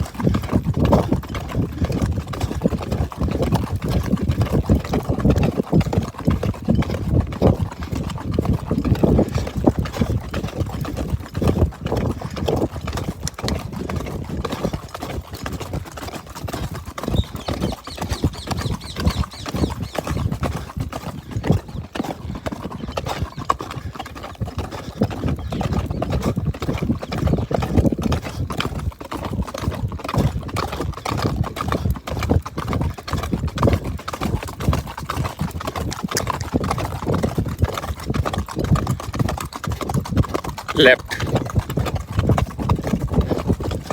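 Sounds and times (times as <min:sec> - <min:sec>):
horse hooves clip-clopping: 0:00.0 - 0:43.9.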